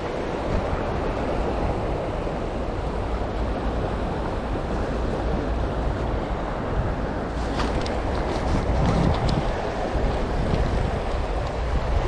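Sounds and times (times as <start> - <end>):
sea waves washing on rocks: 0.0 - 12.0
wind rumble on microphone: 0.0 - 12.0.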